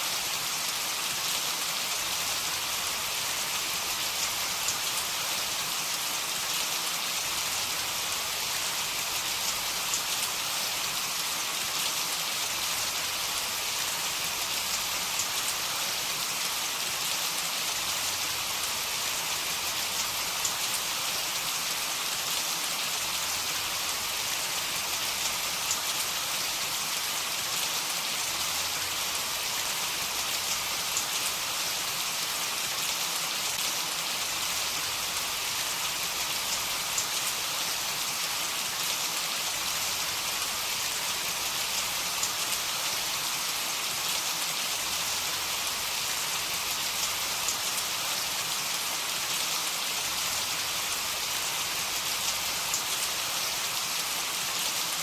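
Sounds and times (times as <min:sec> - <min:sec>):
heavy rain falling: 0:00.1 - 0:55.0.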